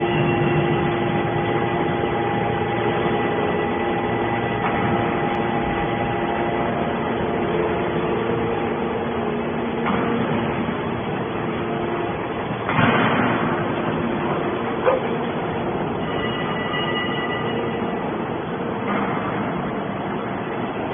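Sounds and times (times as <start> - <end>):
hydraulic baler machine hum: 0.0 - 20.9.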